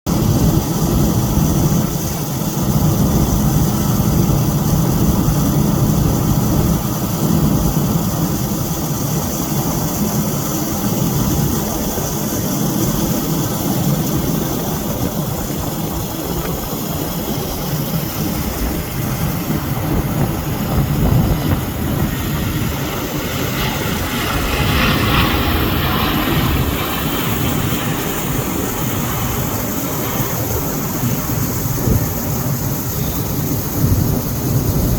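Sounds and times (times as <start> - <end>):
jet airliner taking off: 0.1 - 34.9.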